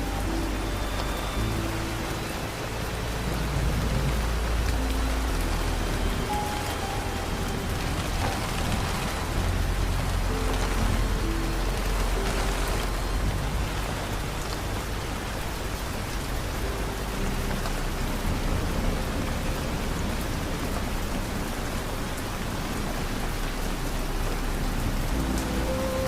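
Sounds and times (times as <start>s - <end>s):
low rumble: 0.0s - 26.0s
rain falling: 0.0s - 26.0s.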